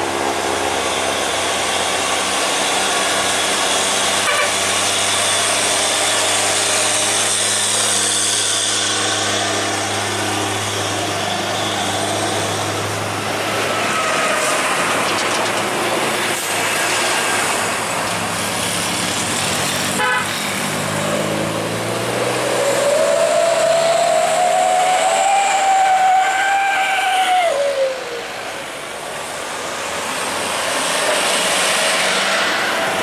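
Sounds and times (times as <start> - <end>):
diesel truck engine droning: 0.0 - 33.0
road traffic tyre noise: 0.0 - 33.0.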